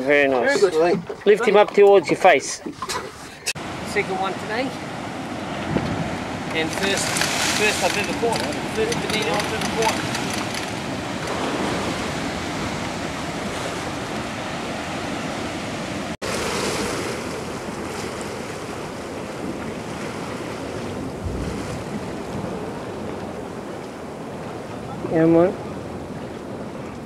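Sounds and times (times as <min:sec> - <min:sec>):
surf washing against rocks: 0:03.6 - 0:27.0
wind buffeting microphone: 0:04.4 - 0:27.0.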